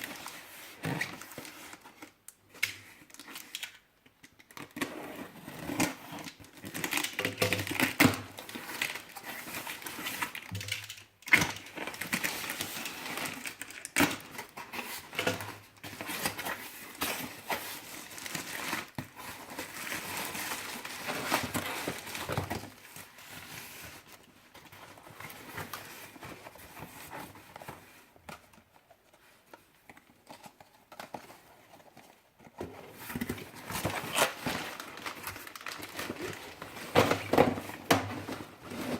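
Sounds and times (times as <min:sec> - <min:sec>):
packaging crinkling and rustling: 0:00.0 - 0:38.9.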